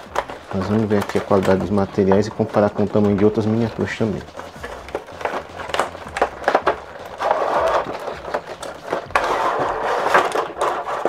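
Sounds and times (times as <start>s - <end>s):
plastic tray scraping in cardboard box: 0.0s - 11.0s
rustling: 0.0s - 11.0s.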